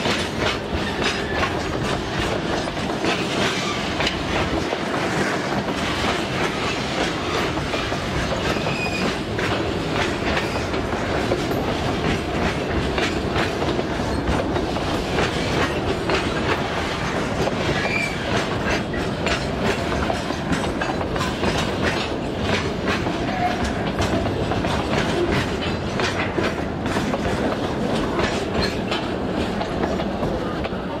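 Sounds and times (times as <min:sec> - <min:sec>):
train wheels clacking over rail joints: 0:00.0 - 0:31.0.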